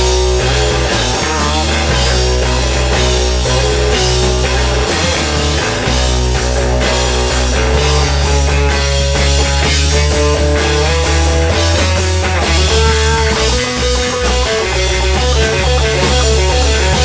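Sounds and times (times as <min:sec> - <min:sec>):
bass notes: 0:00.0 - 0:17.0
guitar melody: 0:00.0 - 0:17.0
rock band playing live: 0:00.0 - 0:17.0.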